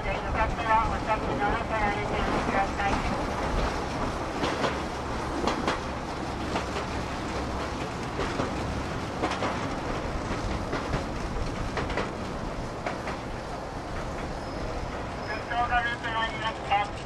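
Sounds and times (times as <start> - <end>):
steel wheels rumbling on rails: 0.0 - 17.0
wheels clacking over rail joints: 1.2 - 15.4.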